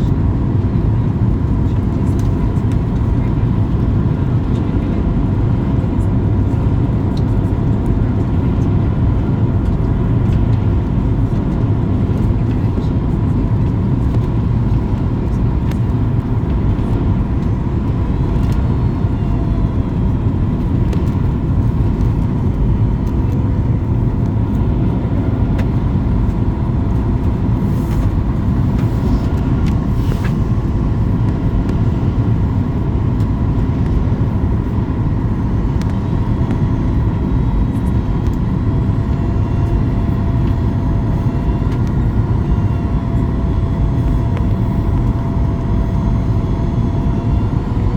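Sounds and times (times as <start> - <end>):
engine and airflow rush: 0.0 - 47.9
faint constant hum: 0.0 - 47.9.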